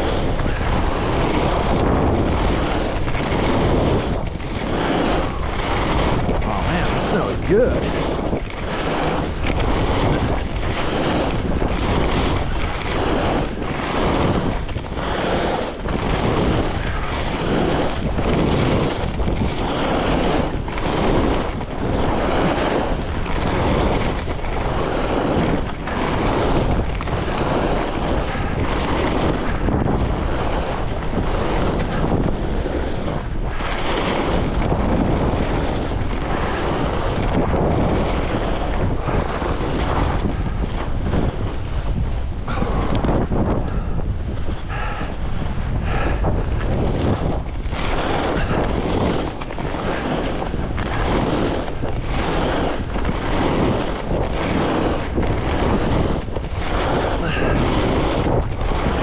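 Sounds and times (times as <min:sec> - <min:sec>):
skis carving on snow: 0:00.0 - 0:59.0
wind rushing over microphone: 0:00.0 - 0:59.0.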